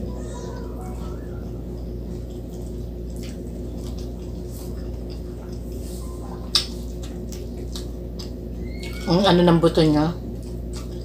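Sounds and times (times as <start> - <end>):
person chewing food: 0.0 - 9.1, 10.3 - 11.0
steady low hum: 0.0 - 11.0.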